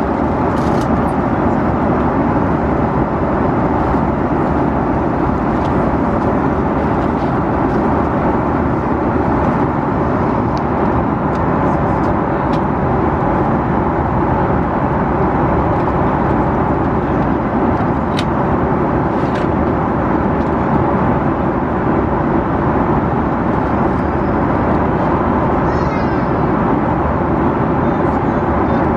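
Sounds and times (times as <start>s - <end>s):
airplane cabin engine drone: 0.0s - 28.9s.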